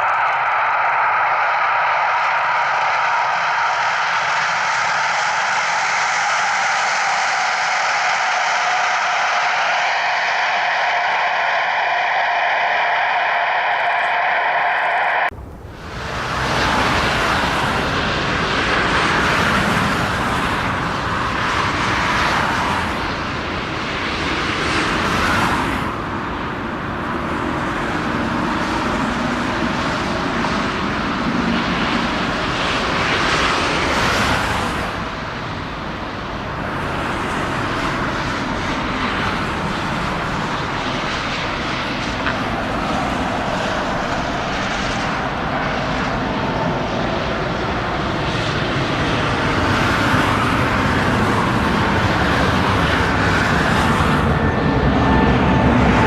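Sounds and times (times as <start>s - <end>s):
airplane engine noise: 0.0s - 56.0s.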